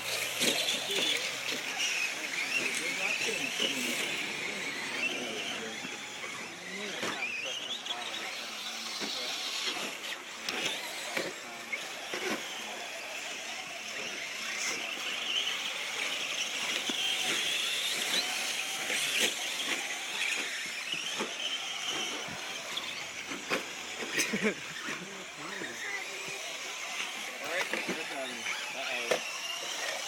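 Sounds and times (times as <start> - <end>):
rc truck motors whining: 0.0 - 30.0.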